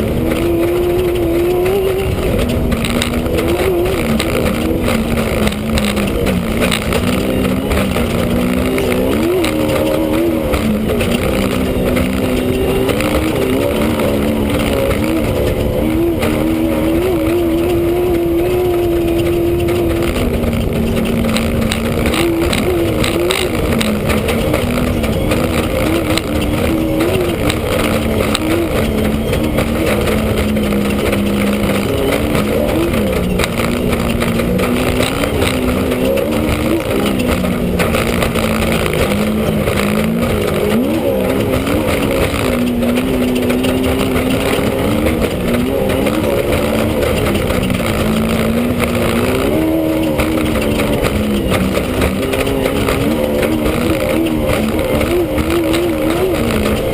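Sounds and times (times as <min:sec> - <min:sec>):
knocks and rattles: 0:00.0 - 0:56.9
race vehicle engine: 0:00.0 - 0:56.9.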